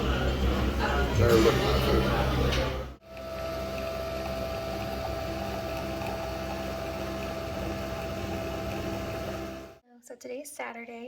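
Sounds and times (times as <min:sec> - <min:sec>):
motor humming: 0:00.0 - 0:09.8.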